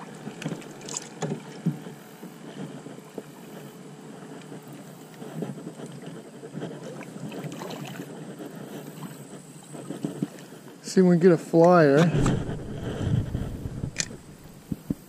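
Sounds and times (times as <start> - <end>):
knocks and rustles of fishing gear: 0.0 - 10.8, 11.6 - 15.0.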